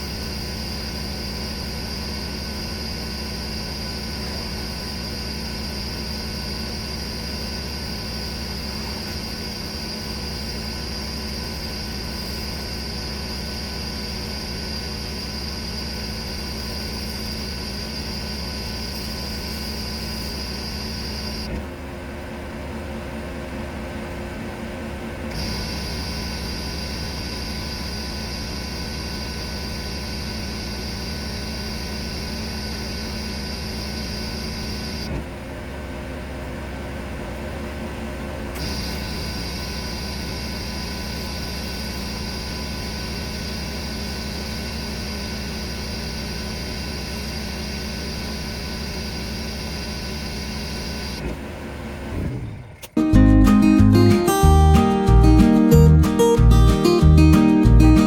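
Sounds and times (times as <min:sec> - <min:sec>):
pressure washer machine drone: 0:00.0 - 0:21.6, 0:25.3 - 0:35.2, 0:38.5 - 0:58.0.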